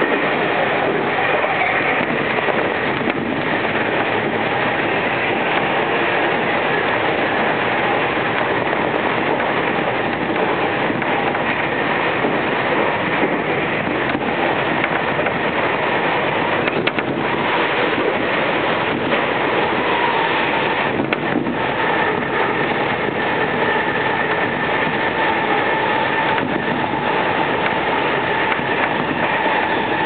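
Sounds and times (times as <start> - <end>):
high motor whine: 0.0 - 30.0
train rolling rumble: 0.0 - 30.0
wheels clicking over rail joints: 0.0 - 30.0.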